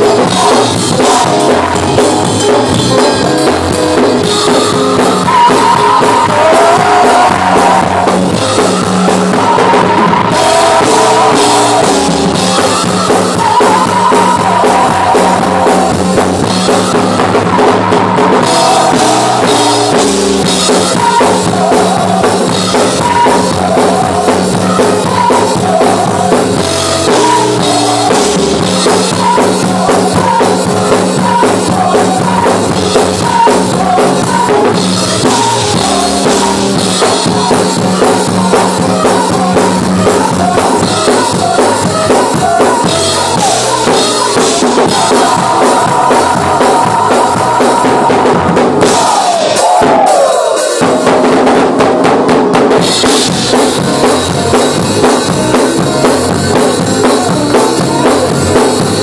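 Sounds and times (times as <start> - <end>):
women singing gospel: 0.0 - 2.5, 5.0 - 50.8
band with drums and bass: 0.0 - 59.0.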